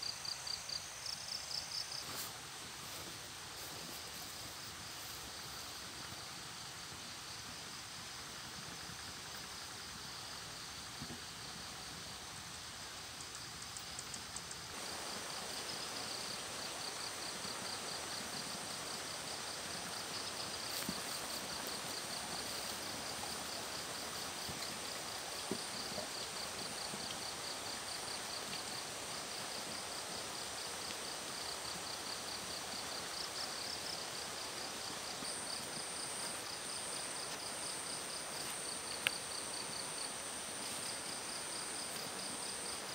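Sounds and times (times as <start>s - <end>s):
background hiss: 0.0s - 42.9s.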